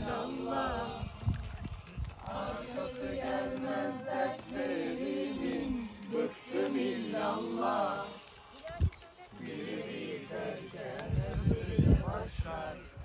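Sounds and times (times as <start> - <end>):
voices singing slow song: 0.0 - 13.0.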